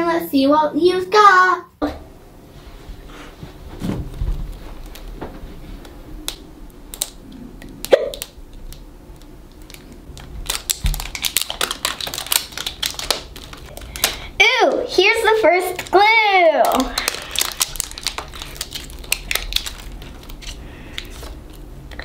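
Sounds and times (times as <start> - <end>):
plastic wrapping crinkling: 4.1 - 22.0.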